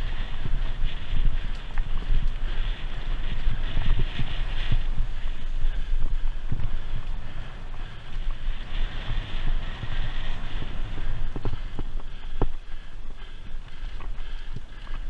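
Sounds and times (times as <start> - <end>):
bicycle rumble over bumpy ground: 0.0 - 15.0
wind noise: 0.0 - 15.0.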